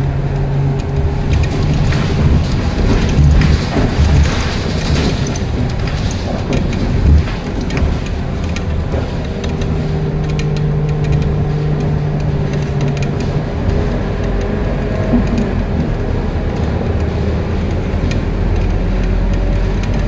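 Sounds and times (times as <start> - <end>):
bus engine and driveline hum: 0.0 - 20.0
road noise: 0.0 - 20.0.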